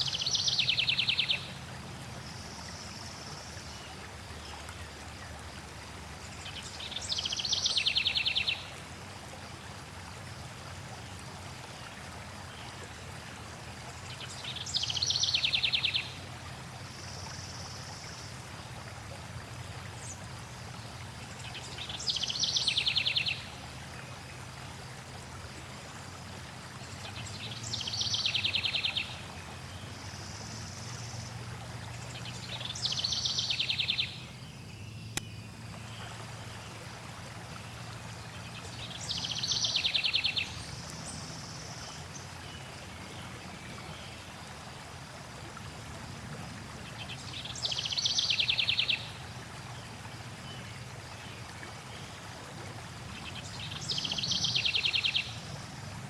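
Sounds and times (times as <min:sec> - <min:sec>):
flowing water: 0:00.0 - 0:56.0.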